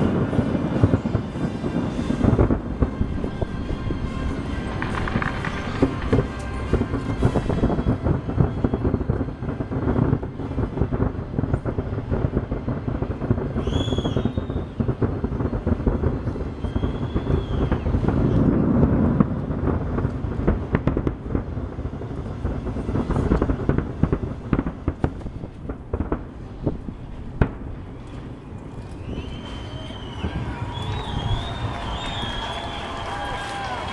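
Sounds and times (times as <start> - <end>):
distant fireworks booms and crackles: 0.0 - 33.9.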